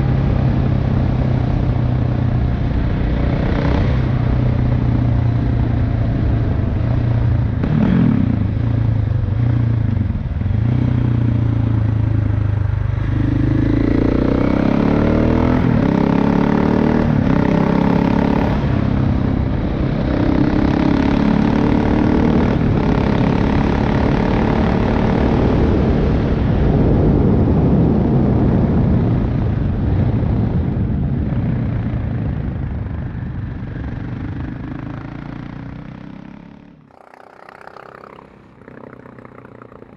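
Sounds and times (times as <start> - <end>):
motorcycle engine revving: 0.0 - 26.5, 33.6 - 39.9.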